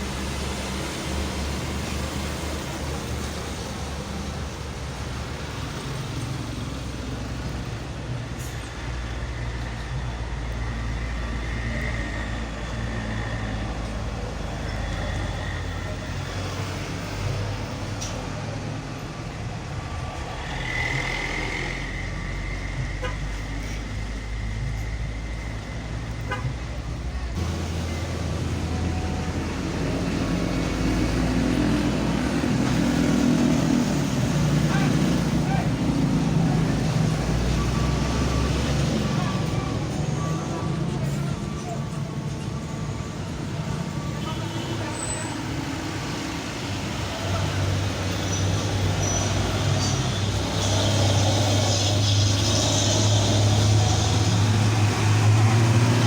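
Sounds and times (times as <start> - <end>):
traffic engines humming: 0.0 - 56.0.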